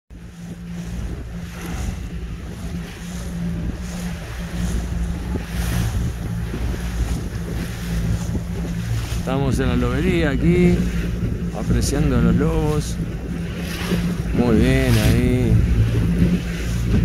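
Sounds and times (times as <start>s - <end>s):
boat motor running: 0.1s - 17.0s
water splashing along hull: 0.1s - 17.0s
wind buffeting microphone: 0.1s - 17.0s.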